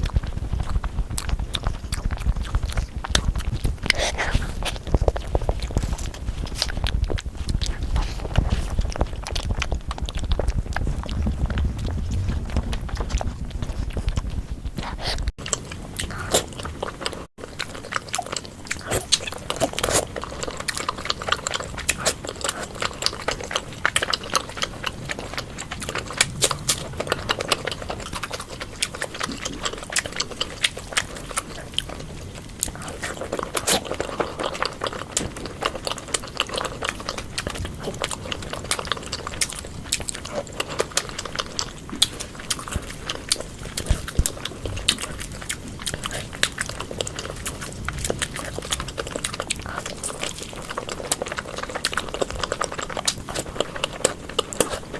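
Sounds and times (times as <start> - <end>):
chewing and mouth smacking: 0.0 - 54.9.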